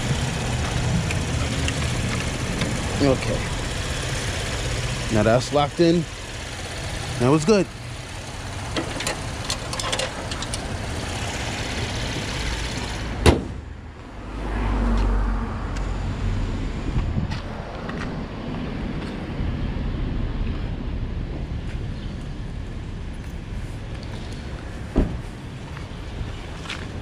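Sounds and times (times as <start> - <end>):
street traffic: 0.0 - 27.0
vehicle low rumble: 0.0 - 27.0.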